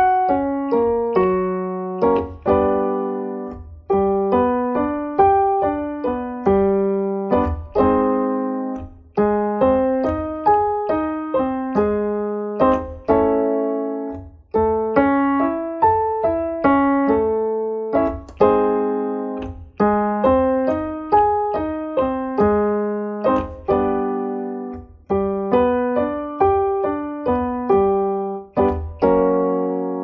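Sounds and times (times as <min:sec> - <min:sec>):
electronic keyboard piano arpeggio: 0:00.0 - 0:30.0.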